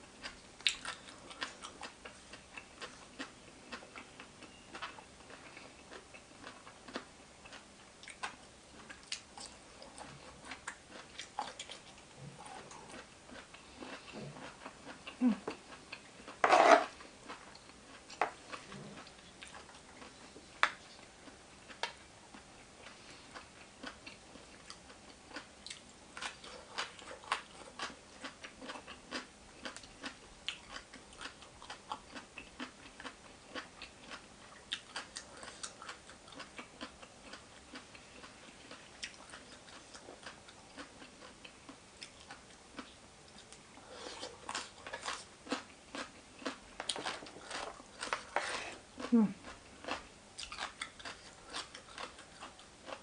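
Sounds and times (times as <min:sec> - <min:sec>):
person chewing close to microphone: 0:00.2 - 0:53.0.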